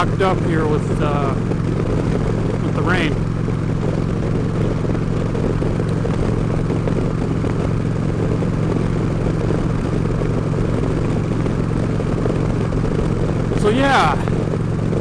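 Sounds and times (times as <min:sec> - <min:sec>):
motorcycle engine cruising: 0:00.0 - 0:15.0
road and wind noise: 0:00.0 - 0:15.0.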